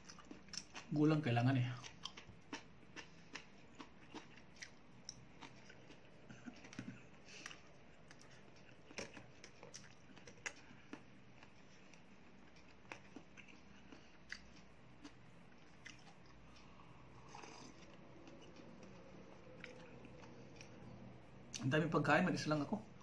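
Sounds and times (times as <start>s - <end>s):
soft chewing: 0.0s - 21.7s.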